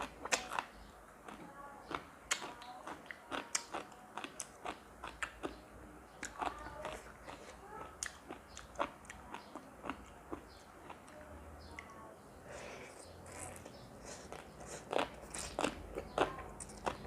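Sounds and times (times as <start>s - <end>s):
person chewing crunchy food: 0.0s - 5.6s, 6.2s - 11.2s, 12.9s - 17.0s.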